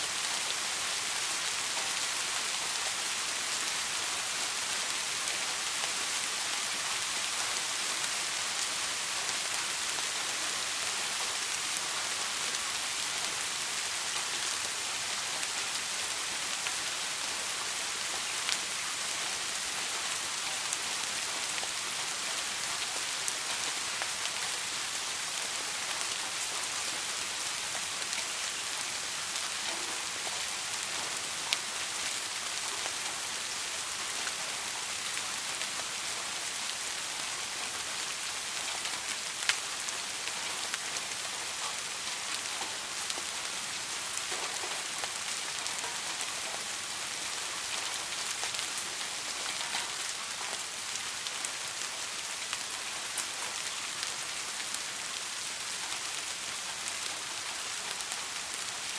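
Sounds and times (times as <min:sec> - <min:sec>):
soft rain hiss: 0:00.0 - 0:58.9.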